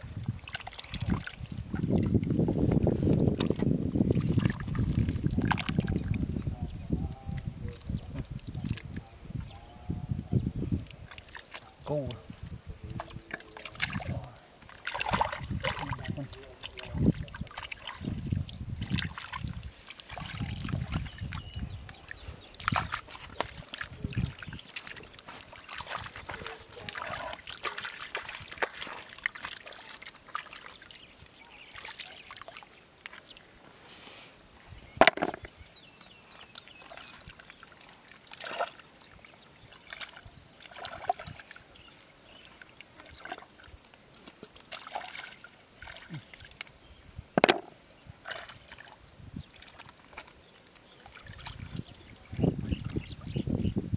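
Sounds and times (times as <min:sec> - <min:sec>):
hands sloshing in wet mud: 0:00.0 - 0:06.2, 0:10.8 - 0:11.8, 0:13.0 - 0:33.5, 0:36.3 - 0:46.8, 0:48.2 - 0:53.4.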